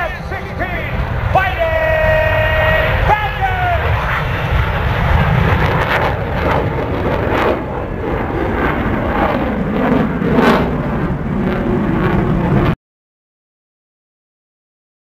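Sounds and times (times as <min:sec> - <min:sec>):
jet engine rumbling rush: 0:00.0 - 0:12.8.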